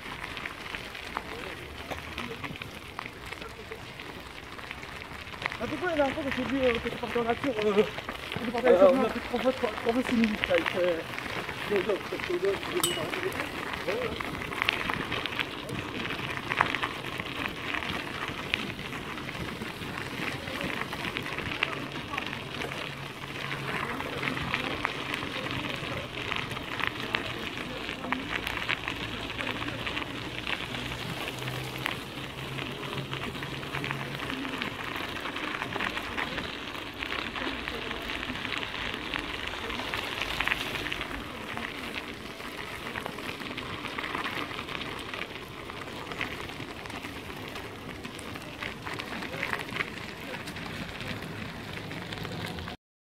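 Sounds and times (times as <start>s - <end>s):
bicycle tyres on gravel: 0.0s - 52.8s.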